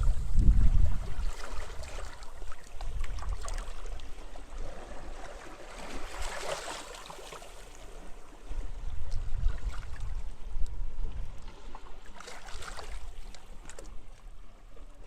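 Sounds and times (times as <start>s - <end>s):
wind rumbling on microphone: 0.0s - 6.2s, 7.8s - 15.0s
sea waves lapping on beach: 0.0s - 14.9s.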